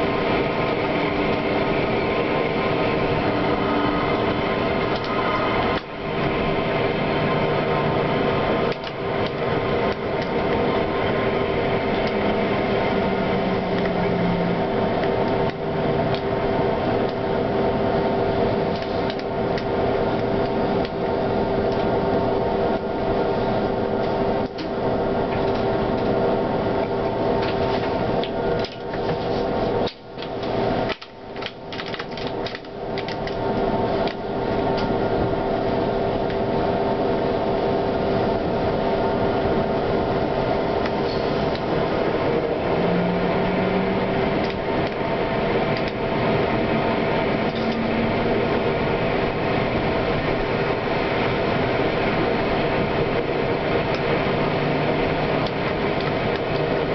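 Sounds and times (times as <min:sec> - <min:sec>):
tram humming on track: 0:00.0 - 0:56.9.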